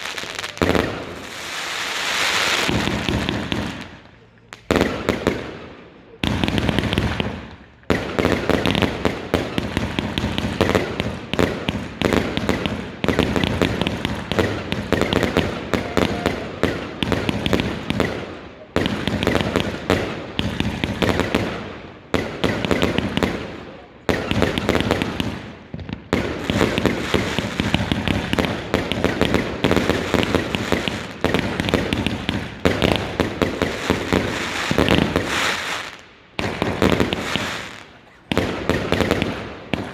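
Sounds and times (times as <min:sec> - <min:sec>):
fireworks crackling bangs: 0:00.0 - 0:39.9.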